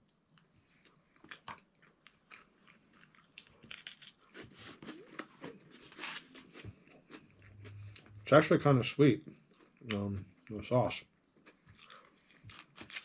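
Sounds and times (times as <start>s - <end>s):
person chewing and crunching food: 0.0s - 8.5s, 9.2s - 13.0s.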